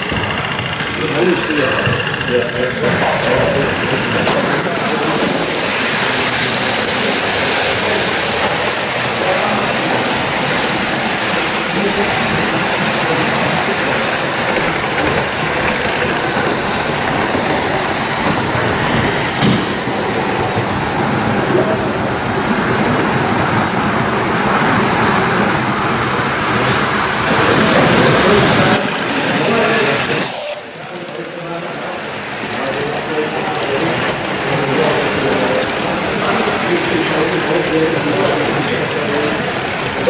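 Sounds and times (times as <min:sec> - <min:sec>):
model steam locomotive running: 0:00.0 - 0:40.0.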